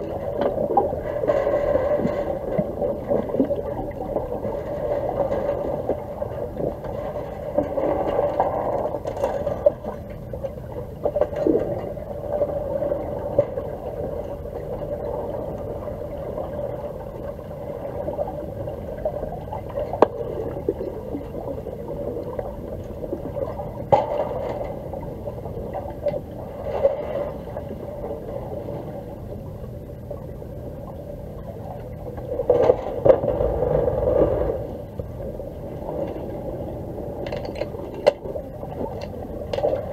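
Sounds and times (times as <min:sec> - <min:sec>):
underwater clicks and knocks: 0:00.0 - 0:15.8, 0:19.0 - 0:27.3, 0:31.7 - 0:39.9
muffled underwater hum: 0:00.0 - 0:39.9.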